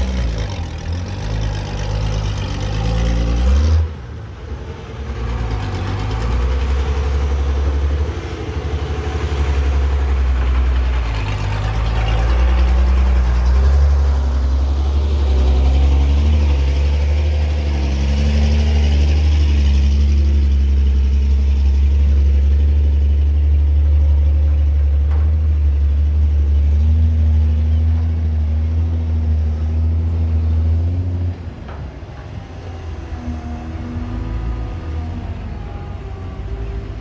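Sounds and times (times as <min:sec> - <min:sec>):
excavator diesel engine droning: 0:00.0 - 0:37.0.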